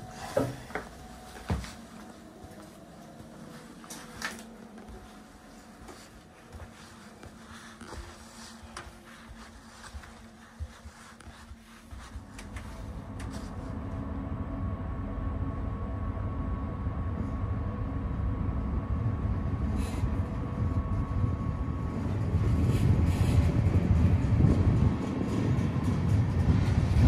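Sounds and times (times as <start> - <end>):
faint steady hum: 0.0 - 27.0
train running rumble: 3.1 - 27.0.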